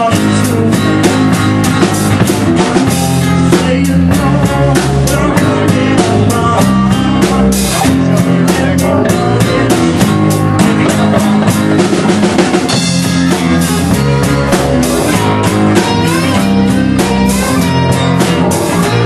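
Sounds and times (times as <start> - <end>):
drum kit: 0.0 - 19.0
electric guitar: 0.0 - 19.0.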